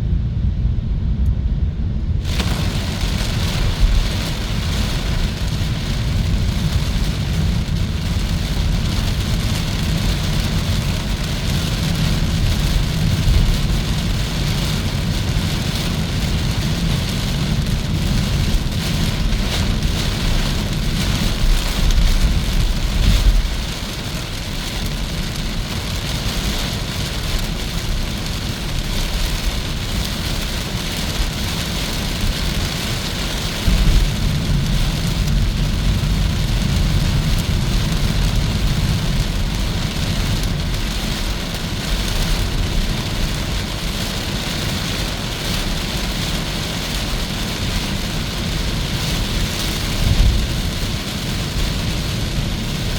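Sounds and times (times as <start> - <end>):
car road and tyre noise: 0.0 - 52.9.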